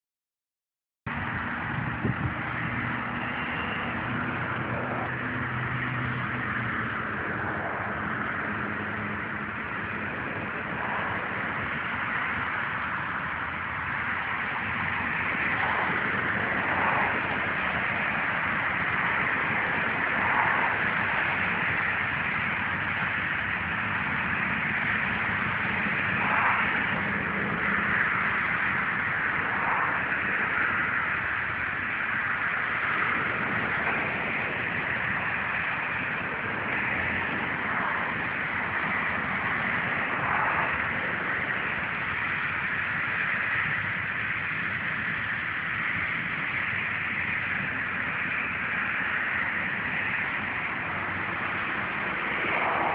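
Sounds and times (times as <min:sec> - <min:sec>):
distant road traffic hiss: 0:01.1 - 0:52.9.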